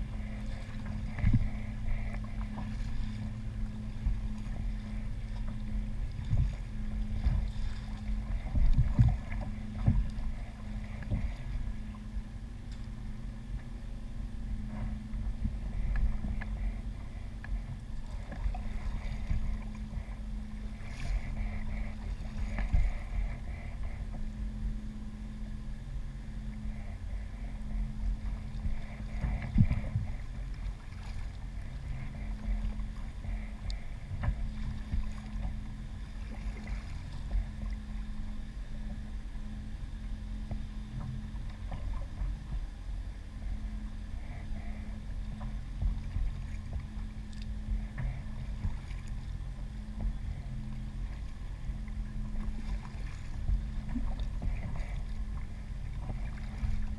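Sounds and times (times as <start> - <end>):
constant low hum: 0.0 - 56.9
water and wind rumble: 0.0 - 56.9.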